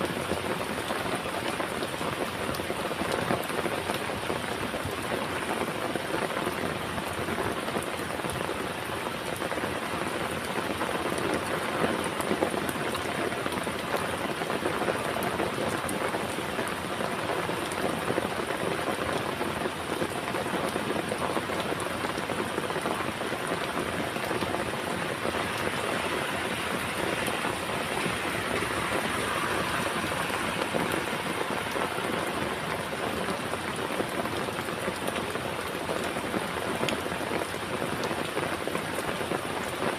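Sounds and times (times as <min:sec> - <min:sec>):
heavy rain spattering: 0:00.0 - 0:39.9.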